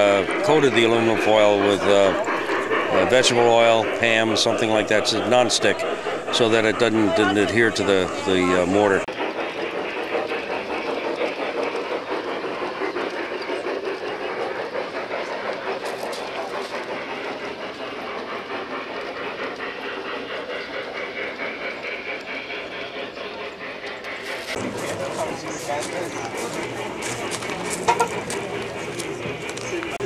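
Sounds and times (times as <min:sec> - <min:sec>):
model train wheels clattering: 0:00.0 - 0:30.0.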